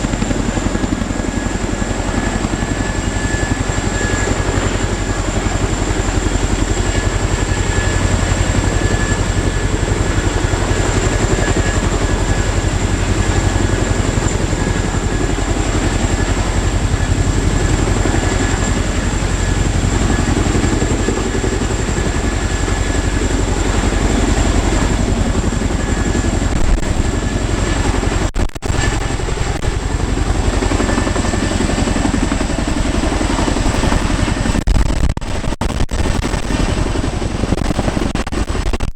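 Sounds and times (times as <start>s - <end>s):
helicopter rotor beat: 0.0s - 38.9s
high turbine whine: 0.0s - 38.9s.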